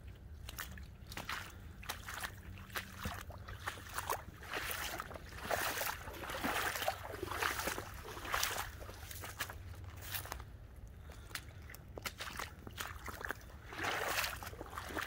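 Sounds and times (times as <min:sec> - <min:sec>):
paws splashing through water: 0:00.0 - 0:15.0.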